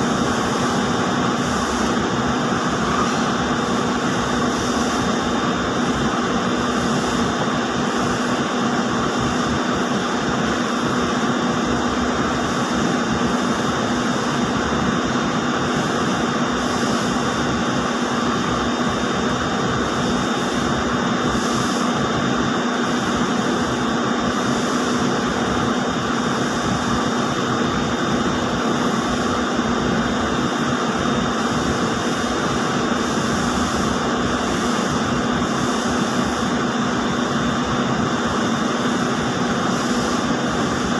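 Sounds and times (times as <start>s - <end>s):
spinning machinery drone: 0.0s - 40.9s.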